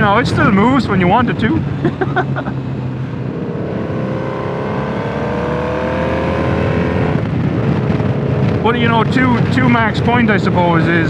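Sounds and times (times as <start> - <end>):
motorcycle engine accelerating: 0.0 - 11.0
wind and road noise: 0.0 - 11.0.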